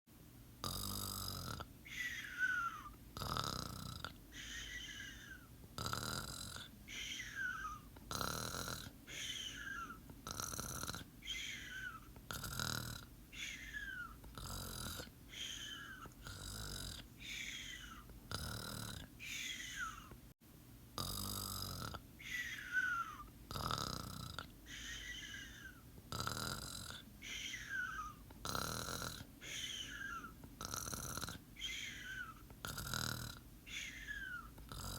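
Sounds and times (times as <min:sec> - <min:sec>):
rough snoring: 0:00.6 - 0:20.1, 0:21.0 - 0:34.9.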